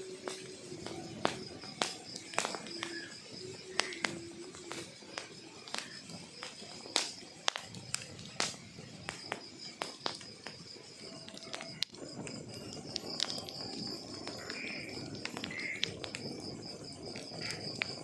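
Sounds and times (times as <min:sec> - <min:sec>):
fire crackling and popping: 0:00.0 - 0:18.0
low rustle of flame: 0:00.0 - 0:18.0.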